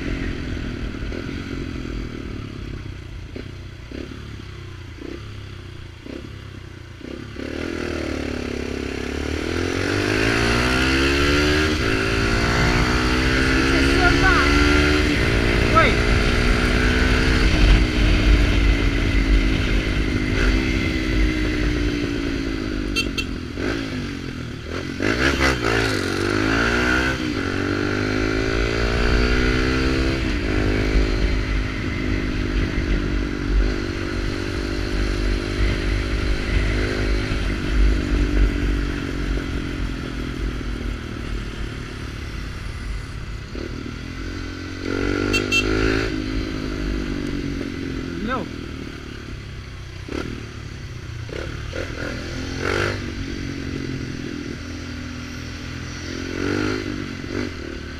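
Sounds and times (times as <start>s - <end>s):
motorcycle revving through gear changes: 0.0s - 57.9s.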